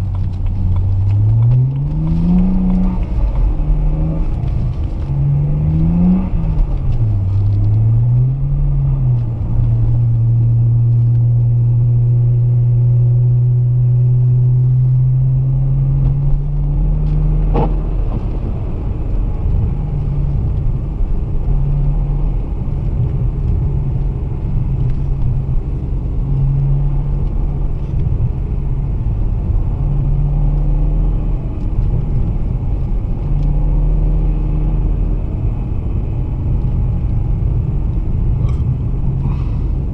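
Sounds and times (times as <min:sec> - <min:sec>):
car engine running while driving: 0:00.0 - 0:39.9
low road rumble: 0:00.0 - 0:39.9.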